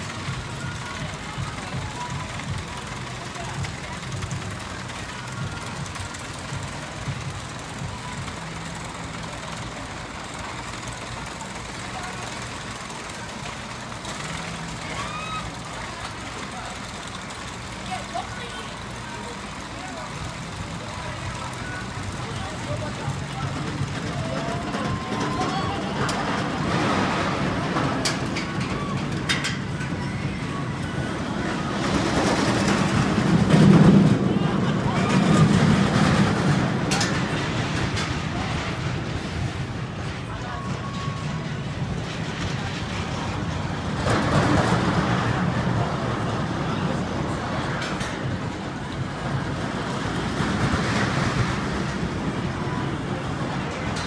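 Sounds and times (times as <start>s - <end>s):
roller coaster wheels rumbling on rail: 0.0s - 54.0s.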